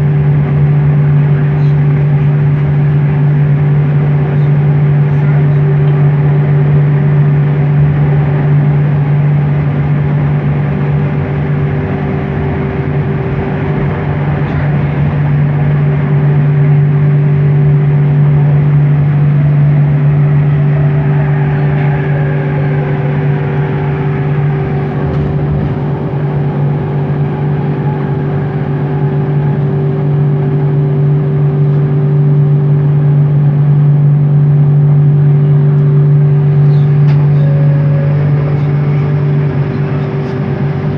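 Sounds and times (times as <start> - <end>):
train motor humming: 0.0 - 40.9
whine falling in pitch: 3.1 - 40.9
train rolling noise: 7.2 - 40.9.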